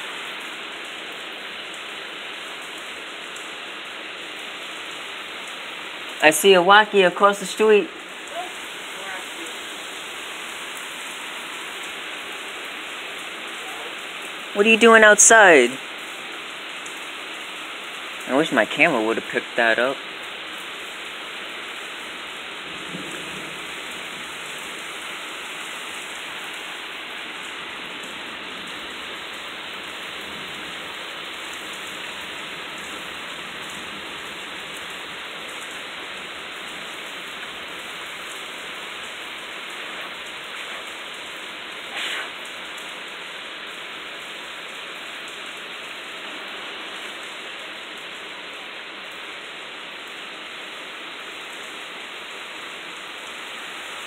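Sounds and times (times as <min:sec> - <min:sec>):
heavy steady rain: 0:00.0 - 0:54.0.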